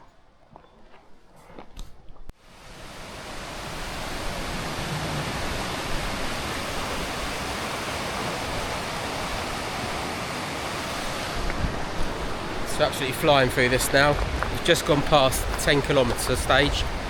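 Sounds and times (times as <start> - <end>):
stream water rushing: 2.4 - 17.0.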